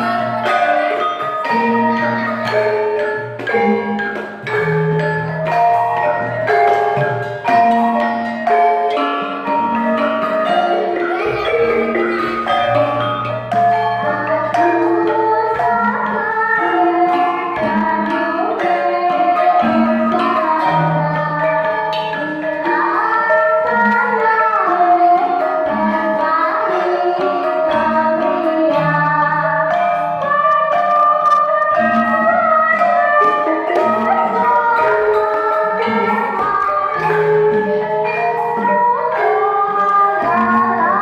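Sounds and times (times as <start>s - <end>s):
drum keeping the beat: 0.0s - 41.0s
metallophones ringing melody: 0.0s - 41.0s.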